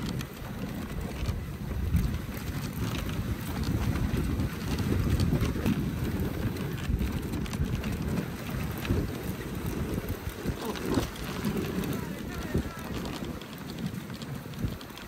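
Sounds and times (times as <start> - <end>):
sled runners rumbling on snow: 0.0 - 15.0
wind buffeting microphone: 0.0 - 15.0.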